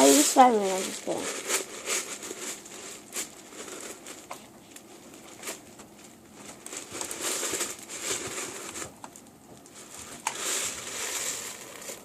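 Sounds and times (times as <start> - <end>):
rustling and crinkling handling: 0.0 - 12.0.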